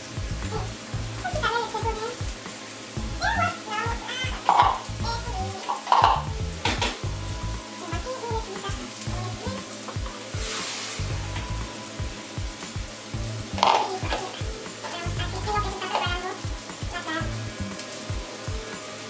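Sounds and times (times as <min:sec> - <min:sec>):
background music: 0:00.0 - 0:19.0
meat sizzling in a frying pan: 0:00.0 - 0:19.0.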